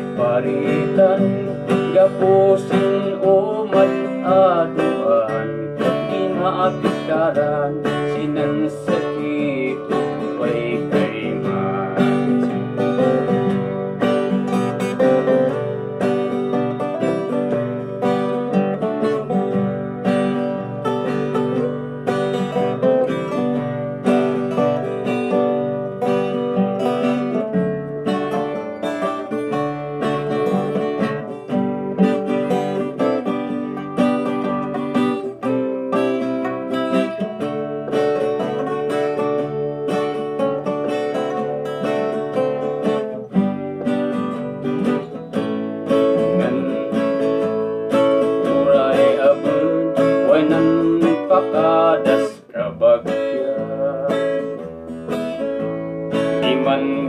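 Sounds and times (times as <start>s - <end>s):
two acoustic guitars playing: 0.0s - 57.0s.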